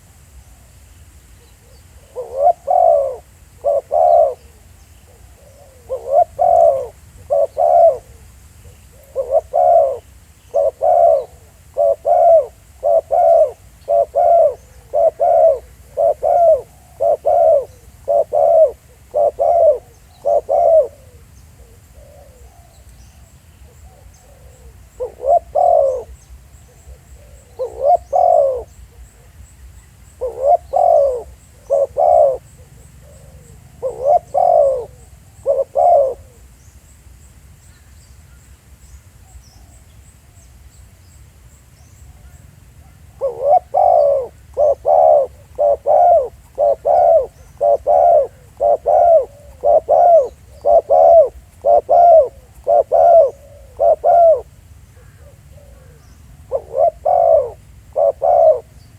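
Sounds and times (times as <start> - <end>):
dove cooing: 1.4 - 29.4, 30.1 - 36.5, 42.1 - 58.9.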